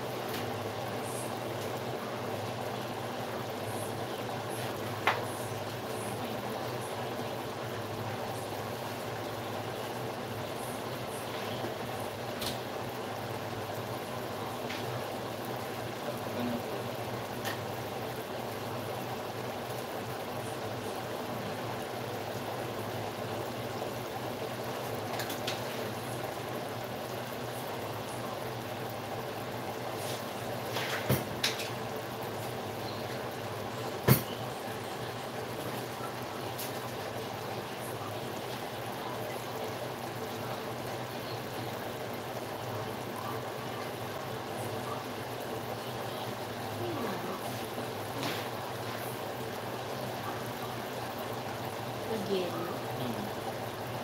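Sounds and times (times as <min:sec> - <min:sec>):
liquid bubbling in a pot: 0:00.0 - 0:54.0.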